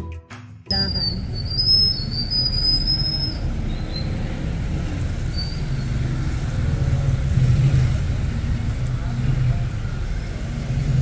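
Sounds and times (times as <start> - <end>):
car engine rumble: 0.7 - 11.0
tyres on wet street: 0.7 - 11.0.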